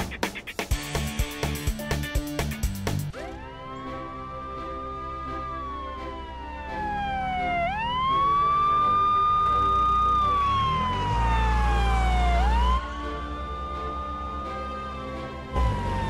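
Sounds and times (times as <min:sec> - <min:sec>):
police siren wailing: 0:03.1 - 0:16.0.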